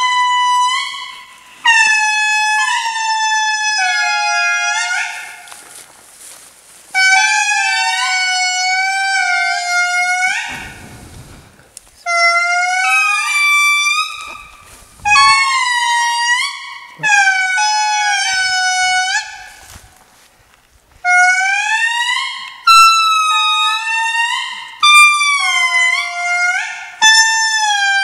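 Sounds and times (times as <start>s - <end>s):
lemurs wailing song: 0.0s - 5.8s, 6.9s - 19.9s, 21.0s - 28.0s.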